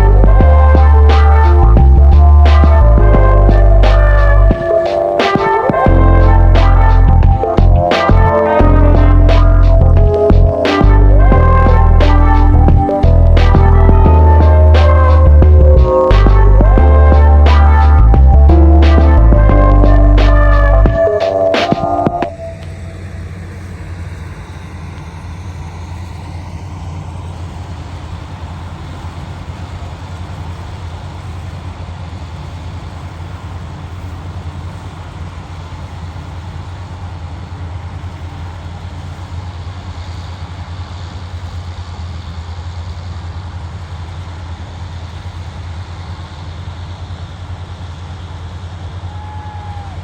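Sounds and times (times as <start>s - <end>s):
engine running steadily: 0.0s - 50.0s.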